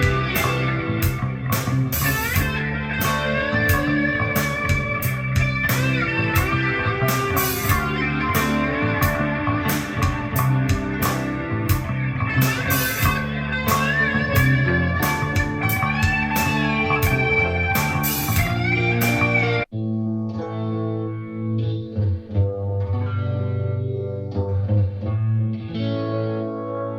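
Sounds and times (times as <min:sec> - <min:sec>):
guitar-led instrumental music: 0:00.0 - 0:26.9.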